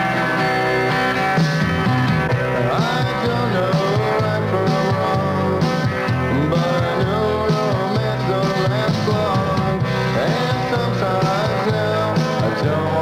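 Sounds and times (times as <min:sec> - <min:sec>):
rock band playing: 0:00.0 - 0:13.0
person singing: 0:02.6 - 0:13.0.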